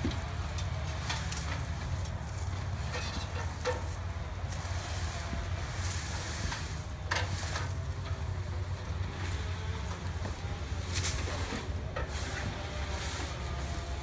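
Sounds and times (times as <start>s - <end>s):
pine needles rustling: 0.0s - 13.8s.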